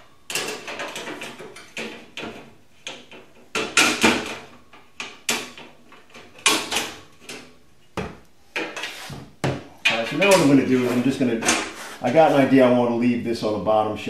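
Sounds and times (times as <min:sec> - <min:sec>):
metal shelving knocks and rattles: 0:00.3 - 0:12.6.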